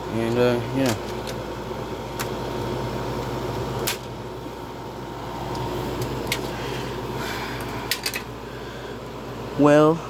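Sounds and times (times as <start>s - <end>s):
air conditioner running: 0.0s - 10.0s.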